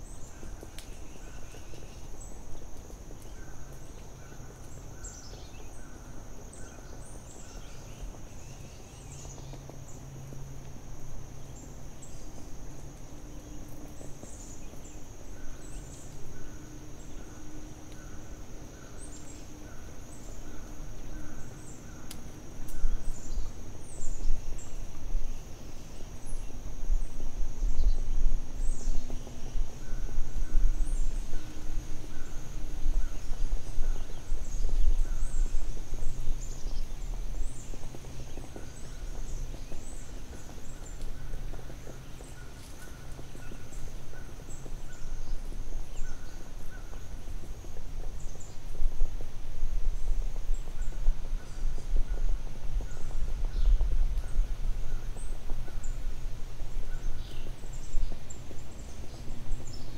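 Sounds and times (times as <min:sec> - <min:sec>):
low uneven rumble: 0:00.0 - 0:59.9.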